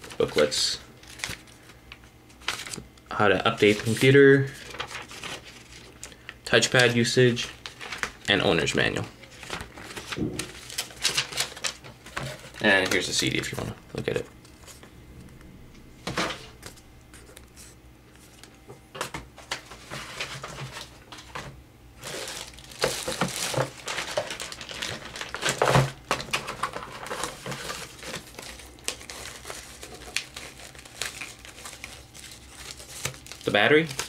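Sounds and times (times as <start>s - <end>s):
plastic packaging crinkling: 0.0s - 14.9s, 16.6s - 34.0s.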